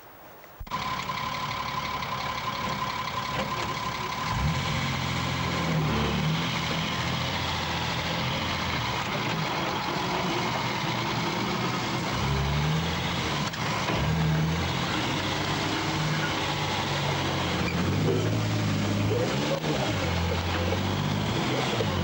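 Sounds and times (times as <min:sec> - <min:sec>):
diesel truck engine under load: 0:00.7 - 0:22.0.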